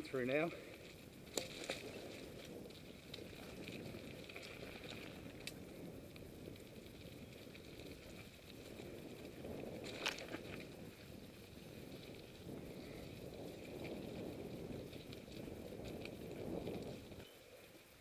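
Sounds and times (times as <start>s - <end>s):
bike clicks and rattles: 0.0s - 18.0s
bike tyres on gravel: 0.0s - 18.0s.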